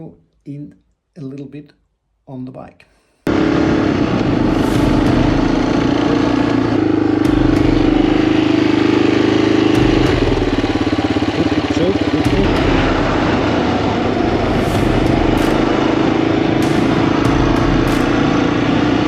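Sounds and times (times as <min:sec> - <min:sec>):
motorcycle engine running: 0:03.3 - 0:19.0.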